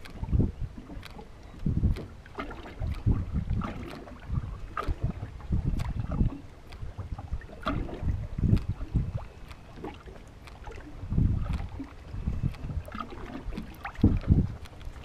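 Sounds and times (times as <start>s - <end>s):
light sharp clicks: 0.0s - 4.1s, 5.7s - 6.9s, 7.7s - 15.0s
water slapping boat hull: 0.0s - 15.0s
wind on microphone: 0.0s - 15.0s.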